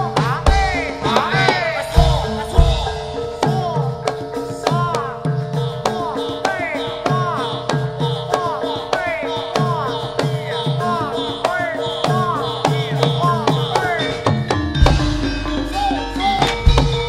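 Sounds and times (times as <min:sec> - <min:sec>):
hand drums playing quick pattern: 0:00.0 - 0:17.0
ringing metallophone tones: 0:00.0 - 0:17.0.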